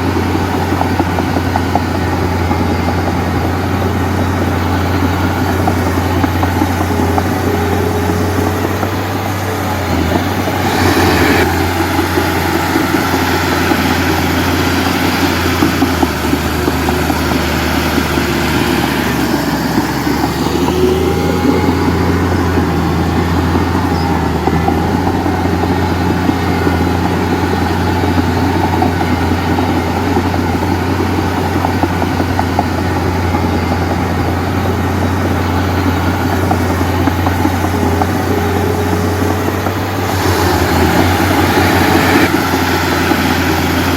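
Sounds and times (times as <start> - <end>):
diesel engine humming: 0.0 - 43.9.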